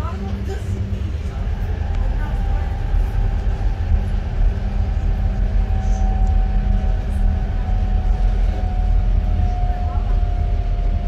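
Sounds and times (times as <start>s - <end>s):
train rumble: 0.0s - 11.0s
high-pitched hum: 0.4s - 11.0s.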